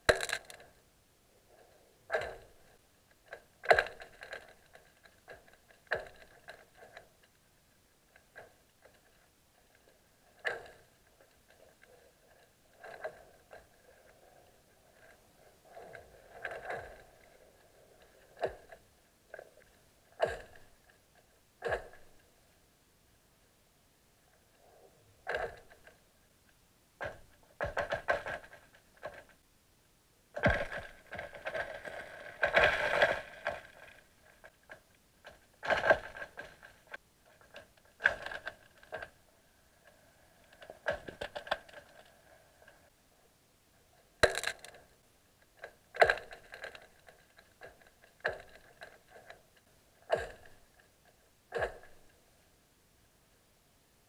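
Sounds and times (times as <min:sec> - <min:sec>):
lake ice cracking underwater: 0:00.0 - 0:00.8, 0:02.0 - 0:07.4, 0:08.1 - 0:22.3, 0:25.2 - 0:26.1, 0:27.0 - 0:29.4, 0:30.3 - 0:42.9, 0:44.1 - 0:52.2.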